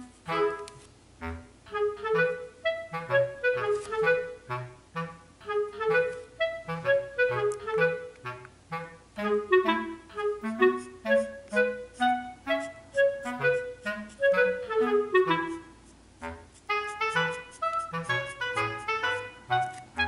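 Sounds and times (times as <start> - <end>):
light woodwind tune: 0.0 - 20.0.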